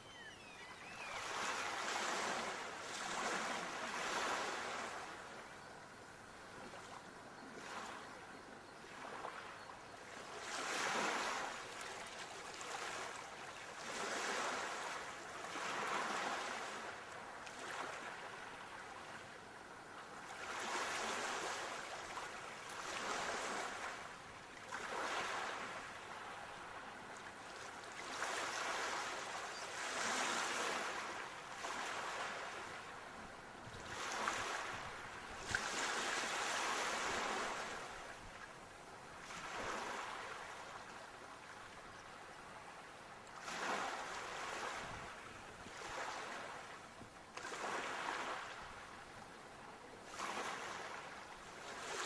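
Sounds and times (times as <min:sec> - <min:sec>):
sea waves breaking on shore: 0:00.2 - 0:05.4, 0:10.1 - 0:19.3, 0:20.2 - 0:38.6, 0:39.2 - 0:49.4, 0:50.0 - 0:52.0.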